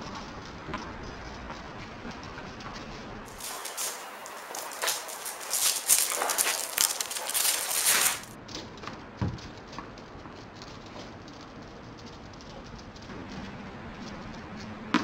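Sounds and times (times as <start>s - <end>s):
dog claws scrabbling on paving: 0.0s - 15.0s.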